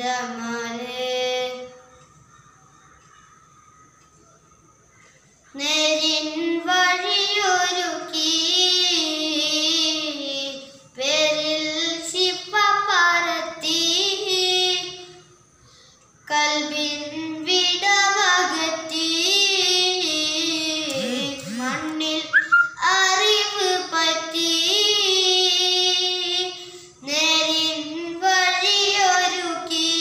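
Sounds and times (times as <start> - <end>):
boy singing unaccompanied: 0.0 - 2.0, 5.5 - 15.3, 16.2 - 30.0.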